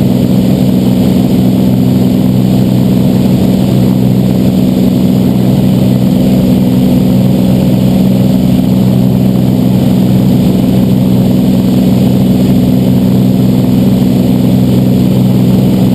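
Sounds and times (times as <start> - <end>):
airplane engine and propeller drone: 0.0 - 15.9.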